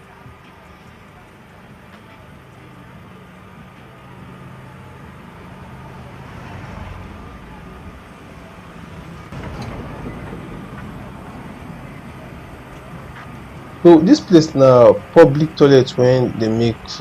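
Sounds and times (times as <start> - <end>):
street traffic noise: 0.0 - 17.0
vehicle engine running: 0.0 - 17.0.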